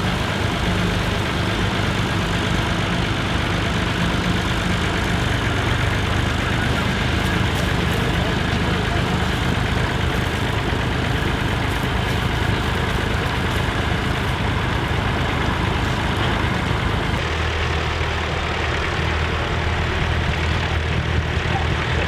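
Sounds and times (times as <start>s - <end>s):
tractor engines running: 0.0s - 22.0s.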